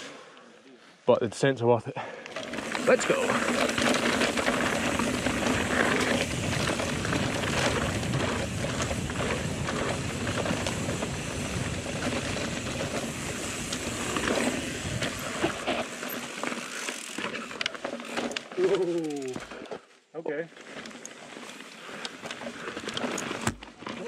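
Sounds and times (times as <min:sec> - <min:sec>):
bike tyres rolling over rock: 0:02.3 - 0:19.8, 0:20.4 - 0:24.0.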